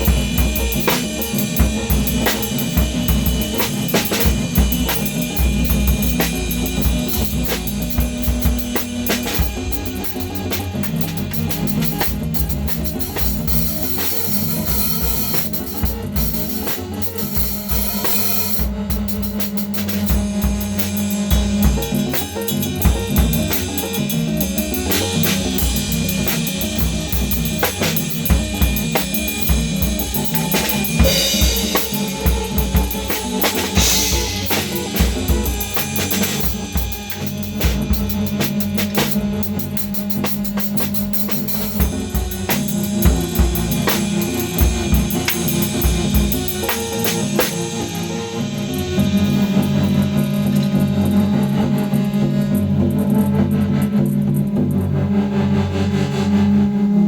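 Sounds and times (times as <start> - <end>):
acoustic drum kit: 0.0 - 55.5
droning modular synthesizer: 0.0 - 57.0.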